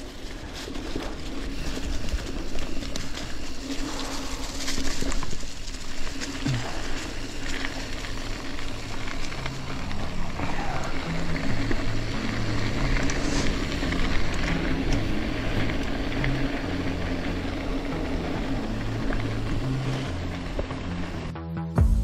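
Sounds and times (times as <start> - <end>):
bike clicks and rattles: 0.0 - 21.3
bike tyre noise: 0.0 - 21.4.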